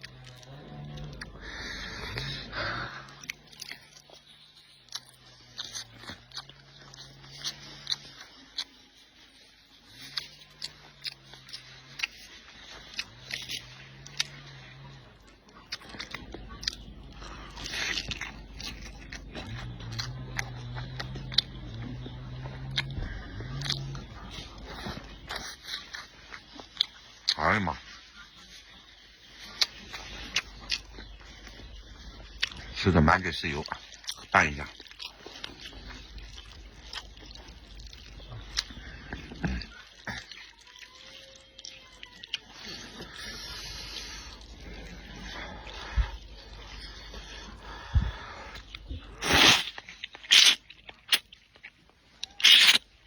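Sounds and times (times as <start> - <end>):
low steady hum: 0.0 - 53.0
person chewing food: 0.0 - 53.0.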